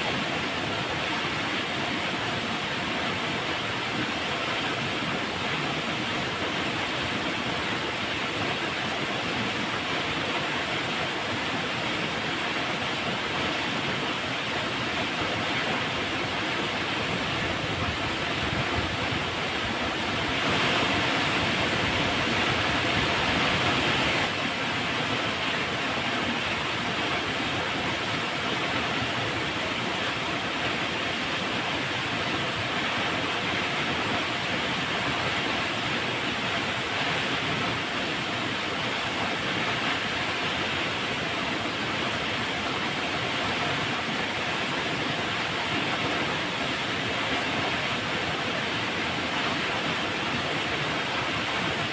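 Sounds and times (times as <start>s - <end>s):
river water rushing: 0.0s - 51.9s.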